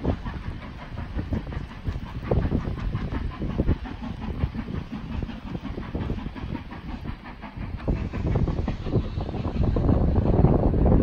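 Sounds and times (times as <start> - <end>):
steam locomotive exhaust beats: 0.0 - 11.0.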